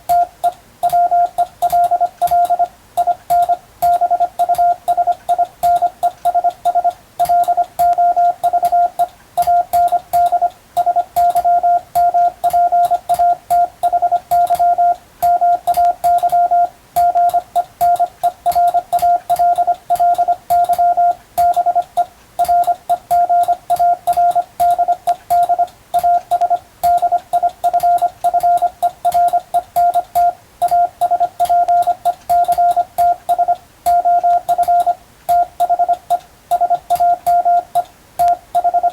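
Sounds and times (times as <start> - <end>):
morse code tone: 0.0 - 38.9
faint keying clicks: 0.1 - 38.9.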